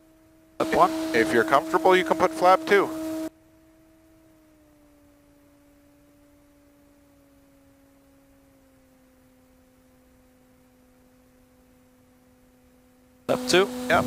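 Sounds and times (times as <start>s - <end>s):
light aircraft engine drone: 0.0s - 14.0s.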